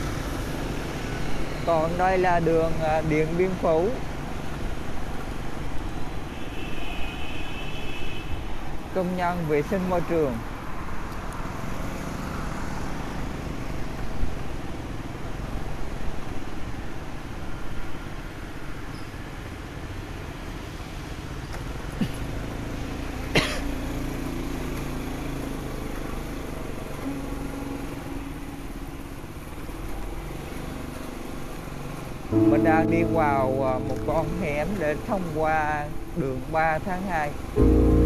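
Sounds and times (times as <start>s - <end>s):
road and wind noise: 0.0s - 38.0s
traffic passing: 0.0s - 38.0s.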